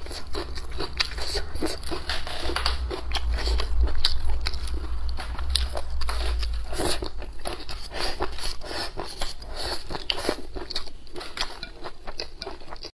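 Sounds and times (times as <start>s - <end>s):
crunching and chewing food: 0.0s - 12.9s.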